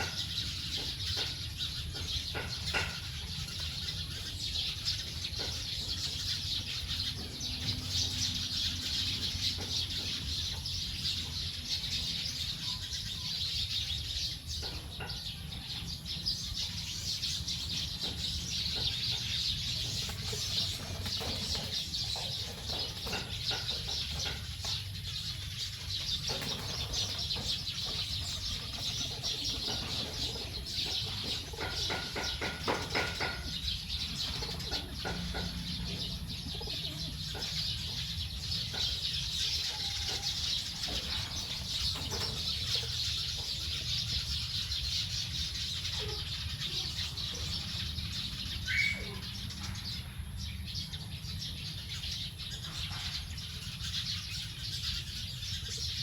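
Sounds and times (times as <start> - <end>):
flock of birds chirping: 0.0 - 56.0.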